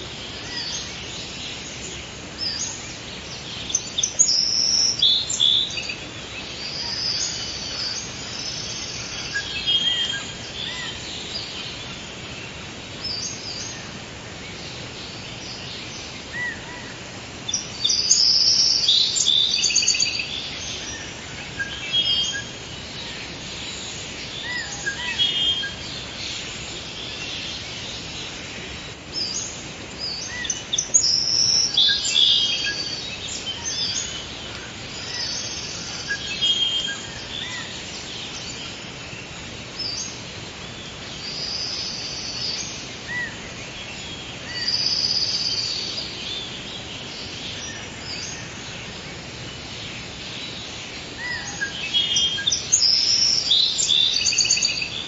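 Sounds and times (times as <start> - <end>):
birds chirping and singing: 0.0 - 55.0
steady background hiss: 0.0 - 55.0.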